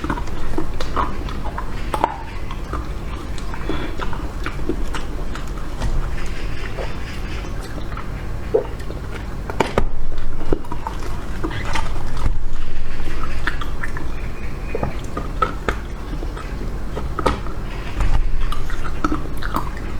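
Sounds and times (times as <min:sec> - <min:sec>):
chewing ice cream: 0:00.0 - 0:19.9.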